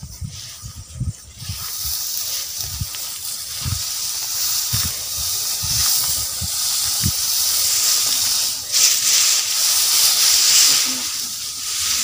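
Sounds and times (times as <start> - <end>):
tall grass swishing and rustling: 0.0 - 12.0.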